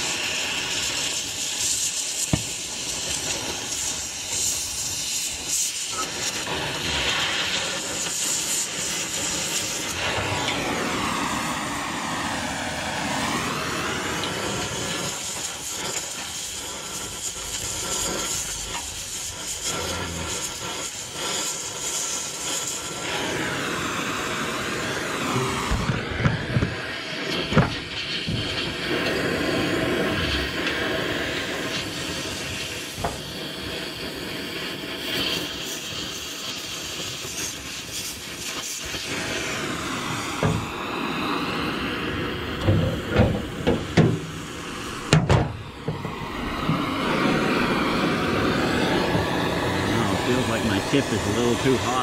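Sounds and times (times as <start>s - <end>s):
welding torch flame hissing: 0.0s - 52.0s.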